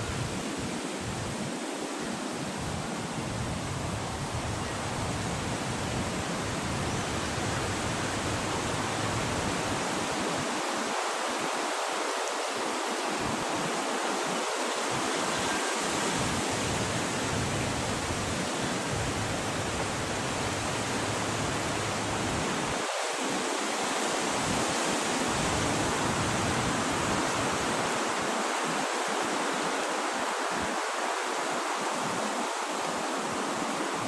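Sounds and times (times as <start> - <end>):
wind blowing: 0.0 - 34.0.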